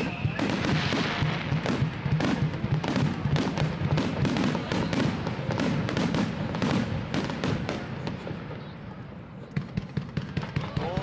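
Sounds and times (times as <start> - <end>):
fireworks crackle: 0.0 - 11.0.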